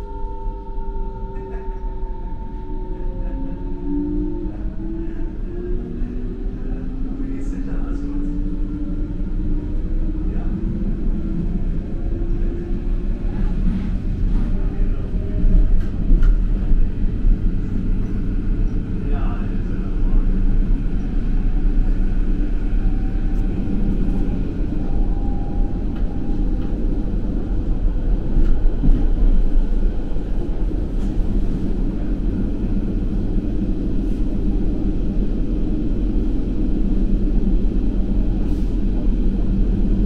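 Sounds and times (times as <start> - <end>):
electric train rumbling: 0.0 - 40.0.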